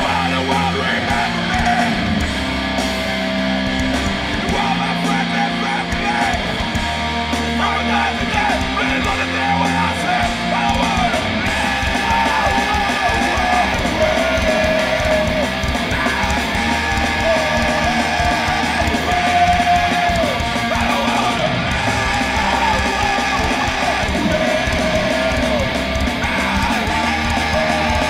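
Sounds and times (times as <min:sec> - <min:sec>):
bass guitar: 0:00.0 - 0:28.0
distorted electric guitars: 0:00.0 - 0:28.0
drums: 0:00.0 - 0:28.0.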